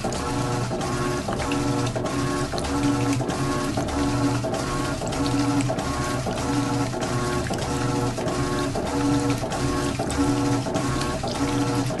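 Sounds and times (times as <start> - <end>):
washing machine motor humming: 0.0 - 12.0
water sloshing: 0.0 - 12.0.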